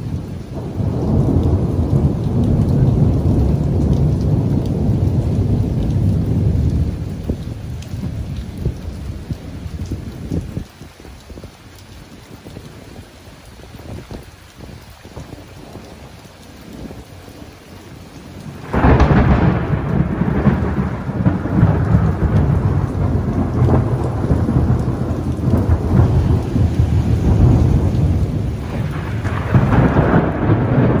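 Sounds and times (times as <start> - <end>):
thunder clap and rumble: 0.0 - 10.8, 13.9 - 31.0
rain falling: 0.0 - 31.0.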